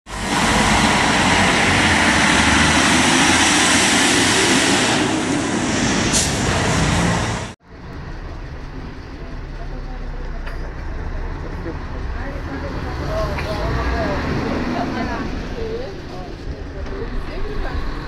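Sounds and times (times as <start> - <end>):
bus engine and road noise: 0.1 - 18.0.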